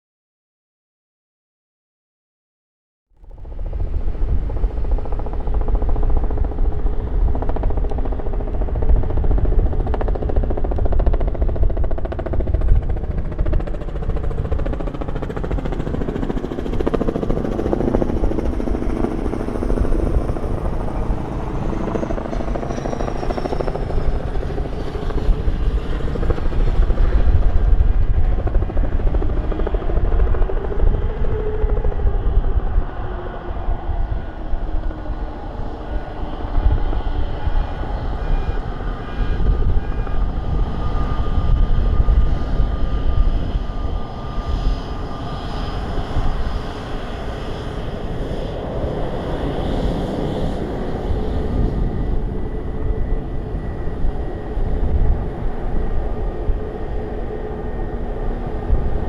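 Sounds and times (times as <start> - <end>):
aircraft passing overhead: 3.3 - 59.0
wind buffeting microphone: 3.3 - 59.0.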